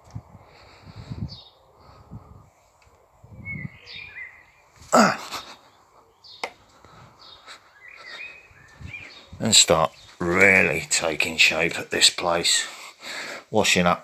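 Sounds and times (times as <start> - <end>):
birds chirping: 0.4 - 13.9.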